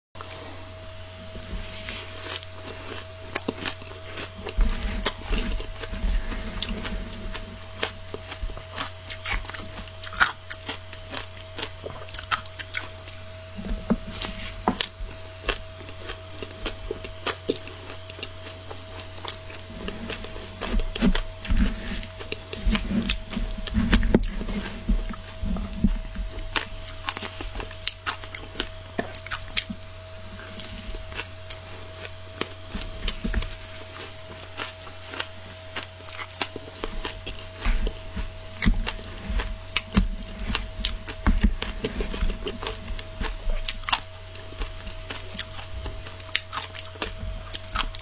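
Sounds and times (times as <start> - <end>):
faint steady hum: 0.2 - 48.0
shaved ice crunching and chewing: 0.2 - 48.0.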